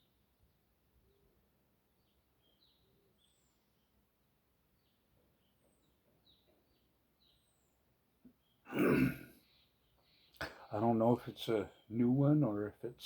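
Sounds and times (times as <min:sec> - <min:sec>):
faint bird chirps: 0:00.0 - 0:12.5.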